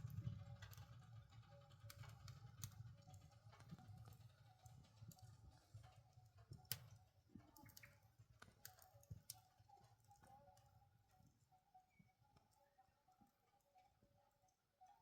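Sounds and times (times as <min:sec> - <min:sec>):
faint clicks and taps: 0:01.8 - 0:15.0.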